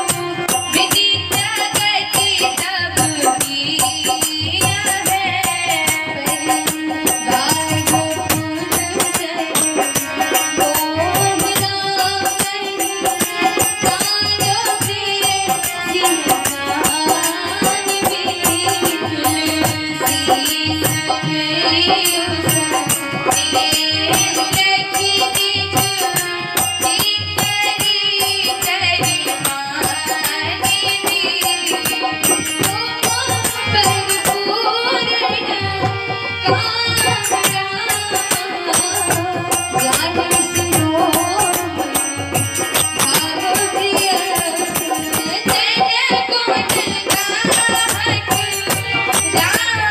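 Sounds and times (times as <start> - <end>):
harmonium sustained tones: 0.0 - 49.9
jingling hand percussion: 0.0 - 49.9
woman singing: 0.0 - 49.9.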